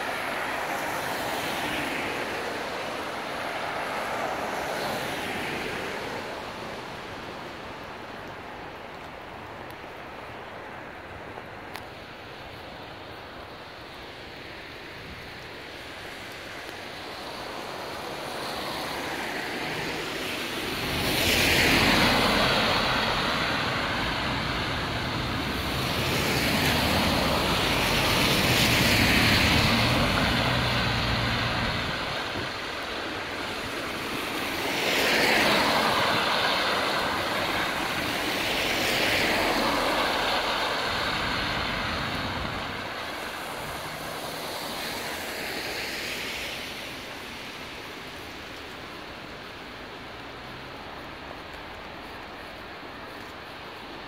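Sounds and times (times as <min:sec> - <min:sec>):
rain hissing: 0:00.0 - 0:54.0
tyres swishing on wet asphalt: 0:00.0 - 0:54.0.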